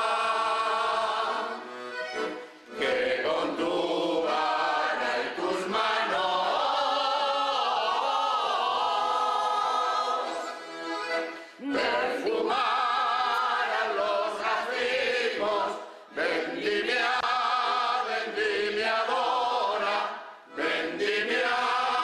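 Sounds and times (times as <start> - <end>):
choir singing unaccompanied: 0.0 - 10.6, 11.6 - 22.0.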